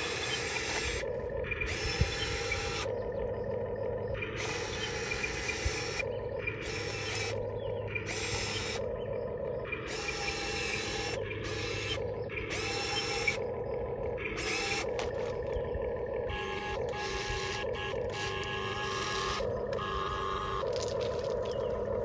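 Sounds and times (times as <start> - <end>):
steady hum: 0.0 - 22.0
toy excavator motors whirring: 0.0 - 22.0.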